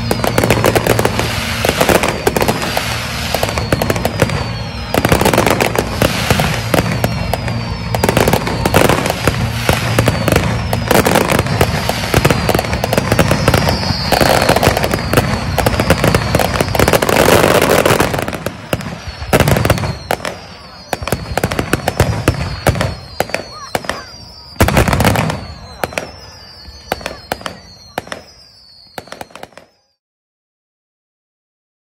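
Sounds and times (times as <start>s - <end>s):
firework shells bursting: 0.0s - 29.8s
fireworks crackling: 0.0s - 30.0s
high falling whistles: 0.0s - 30.0s.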